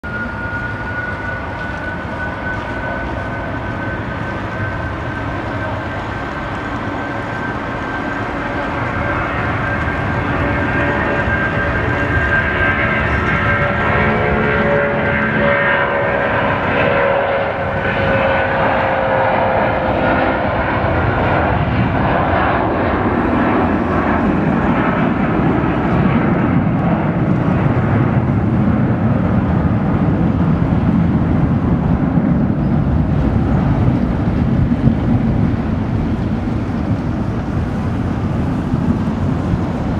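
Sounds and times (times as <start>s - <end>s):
jet engine whine: 0.0s - 39.9s
low jet rumble: 0.0s - 39.9s.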